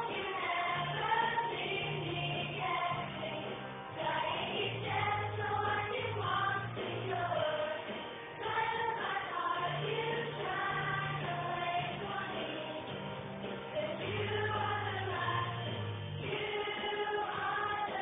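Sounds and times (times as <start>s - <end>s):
children's choir singing: 0.0s - 13.1s, 13.7s - 18.0s.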